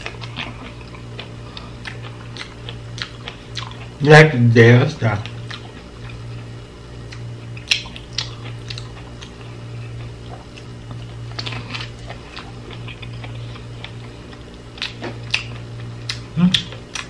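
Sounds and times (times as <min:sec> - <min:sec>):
person chewing: 0:00.0 - 0:04.0, 0:05.2 - 0:17.0
steady low hum: 0:00.0 - 0:17.0.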